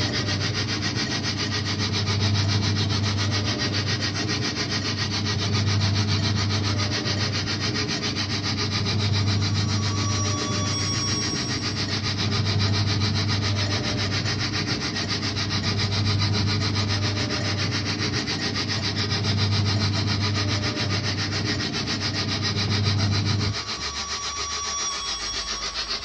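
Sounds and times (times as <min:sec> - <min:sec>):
ride motor humming: 0:00.0 - 0:26.0.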